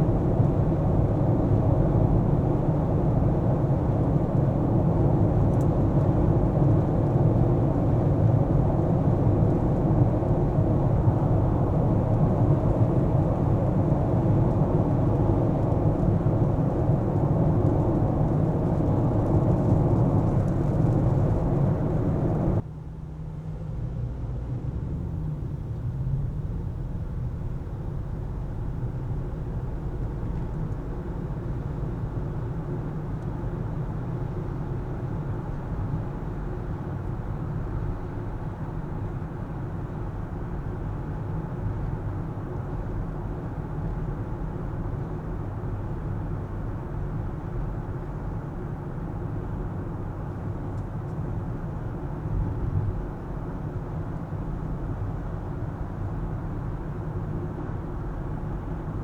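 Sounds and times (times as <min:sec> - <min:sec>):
car engine and tyre rumble: 0:00.0 - 0:59.0
quiet steady car hum: 0:00.0 - 0:59.0.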